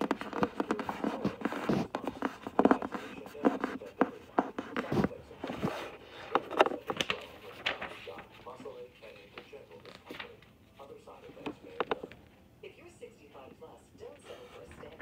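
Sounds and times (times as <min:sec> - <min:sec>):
paper crinkling and scraping: 0:00.0 - 0:12.2.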